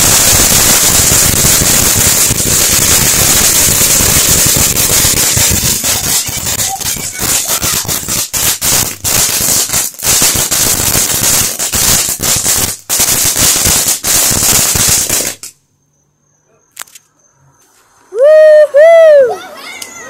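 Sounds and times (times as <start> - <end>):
fireworks cracking pops: 0.0 - 15.6, 16.7 - 20.0.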